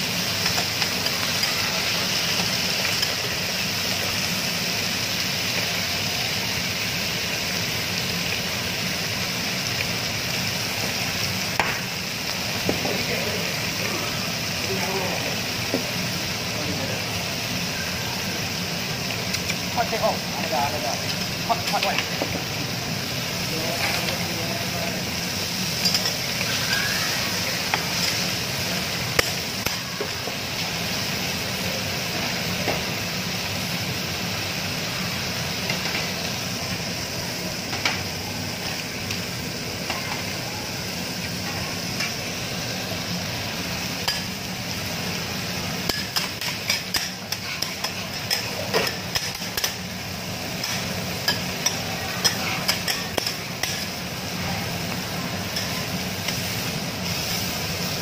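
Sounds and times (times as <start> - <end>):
food sizzling on griddle: 0.0 - 58.0.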